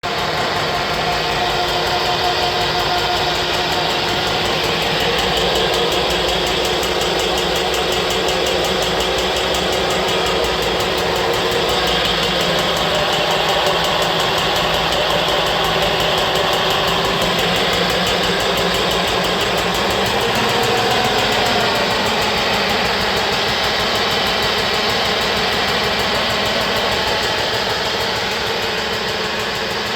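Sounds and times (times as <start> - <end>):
electric hub motor running: 0.0 - 29.9.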